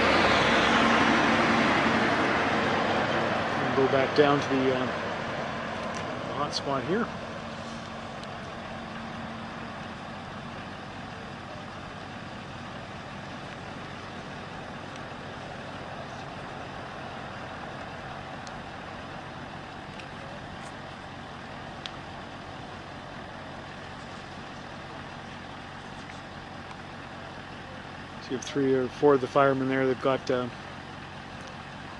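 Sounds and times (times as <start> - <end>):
water pump engine running: 0.0 - 31.9.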